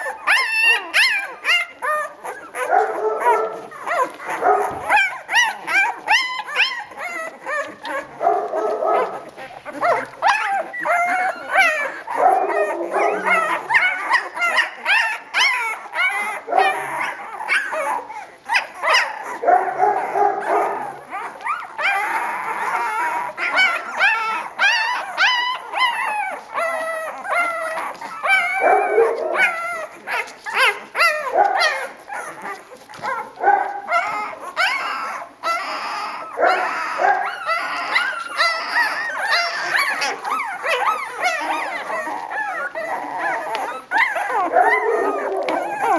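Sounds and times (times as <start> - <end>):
puppies squeaking and whimpering: 0.0 - 45.9.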